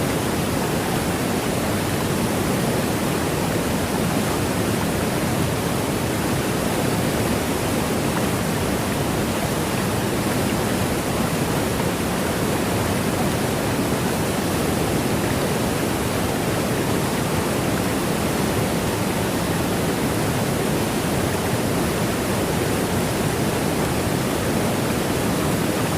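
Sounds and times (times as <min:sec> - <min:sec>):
indoor waterfall falling: 0:00.0 - 0:25.9.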